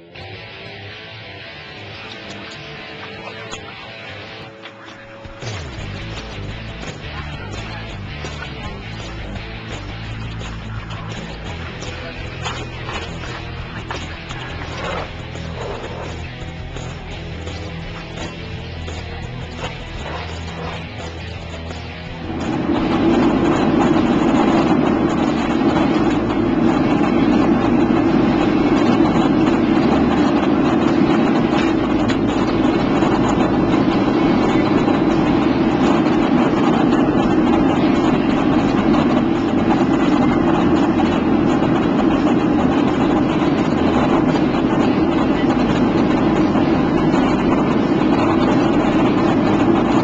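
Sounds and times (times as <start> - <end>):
airliner cabin engine and airflow noise: 1.9 - 50.0.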